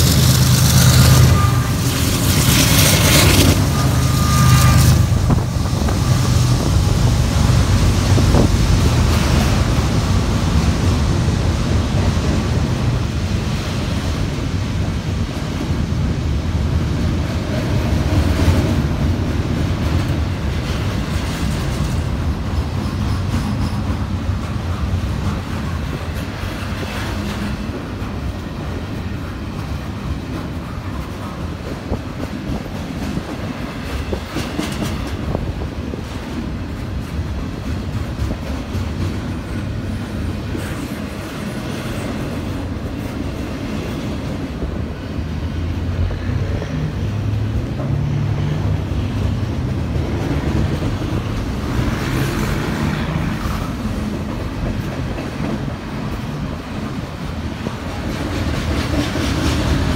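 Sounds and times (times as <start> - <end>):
diesel locomotive engine: 0.0 - 59.9
freight cars rolling on rails: 0.0 - 59.9.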